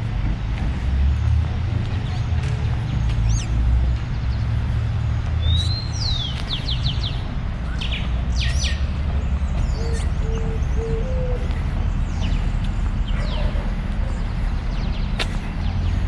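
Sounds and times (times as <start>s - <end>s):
low rumble of distant traffic: 0.0s - 16.0s
birds chirping and whistling: 1.9s - 16.0s.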